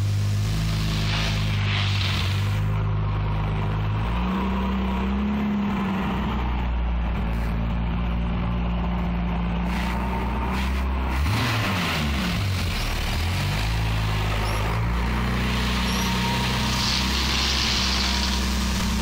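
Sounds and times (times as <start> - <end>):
car engine running at low revs: 0.0 - 19.0.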